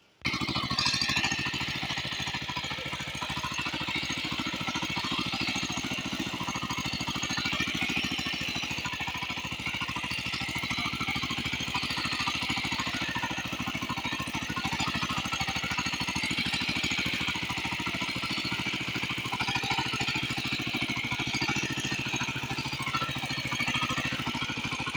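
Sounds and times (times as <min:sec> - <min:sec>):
tractor engine chugging: 0:00.2 - 0:24.9.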